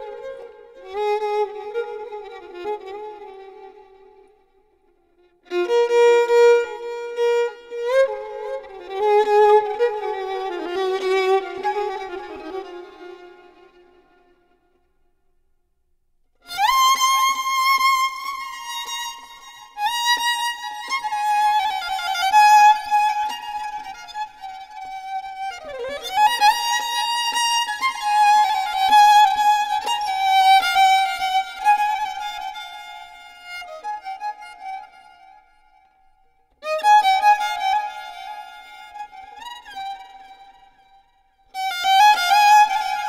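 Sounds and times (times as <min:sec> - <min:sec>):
solo violin melody: 0:00.0 - 0:04.5, 0:05.1 - 0:14.6, 0:16.4 - 0:35.8, 0:36.6 - 0:43.0.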